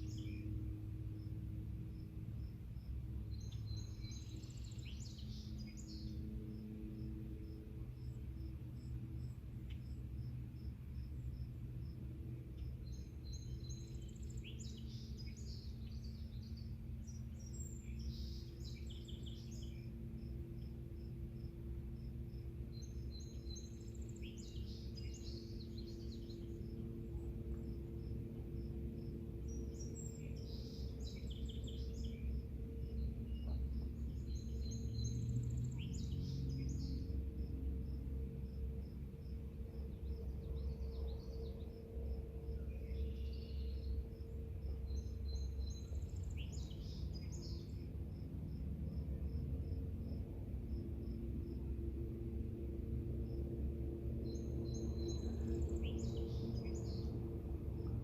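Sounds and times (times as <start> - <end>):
insects chirping: 0.0 - 58.0
low steady hum: 0.0 - 58.0
songbird singing: 0.0 - 58.0.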